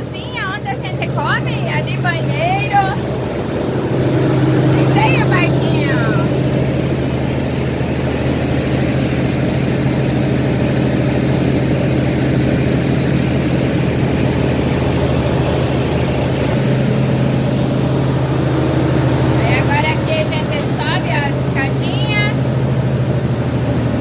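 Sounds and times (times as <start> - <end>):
boat diesel engine droning: 0.0 - 24.0.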